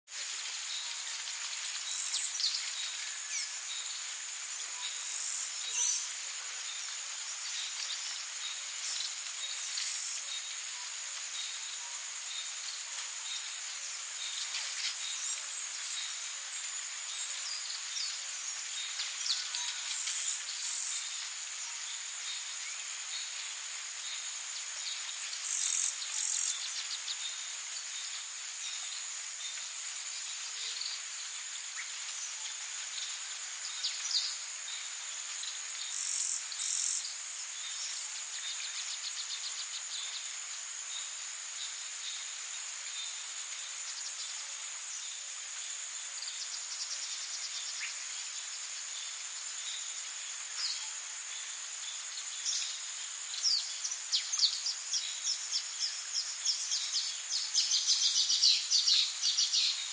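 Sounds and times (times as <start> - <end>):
even hiss: 0.1 - 59.9.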